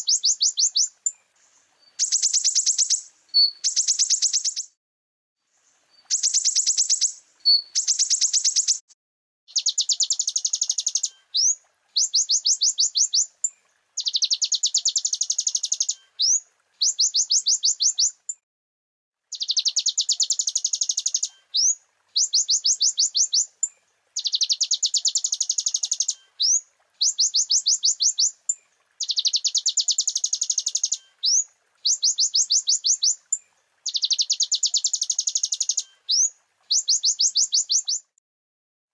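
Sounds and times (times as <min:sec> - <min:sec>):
bird singing high chattering trills: 0:00.0 - 0:01.2, 0:01.9 - 0:04.8, 0:06.0 - 0:08.9, 0:09.5 - 0:13.3, 0:14.0 - 0:18.3, 0:19.3 - 0:28.4, 0:29.0 - 0:38.2.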